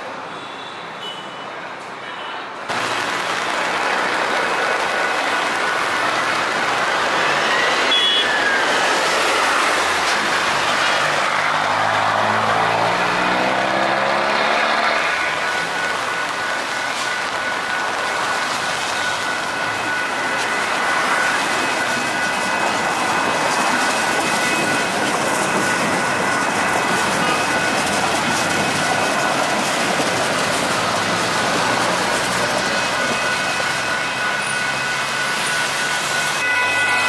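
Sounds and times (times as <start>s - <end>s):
train wheels rolling on rails: 2.7s - 37.0s.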